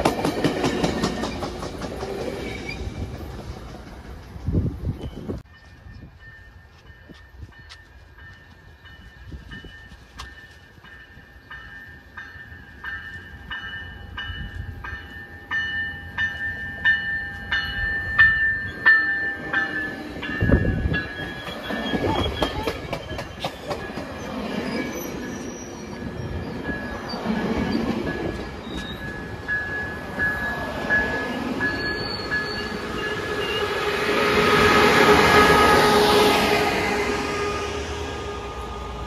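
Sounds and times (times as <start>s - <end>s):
passenger train rumbling: 0.0s - 39.0s.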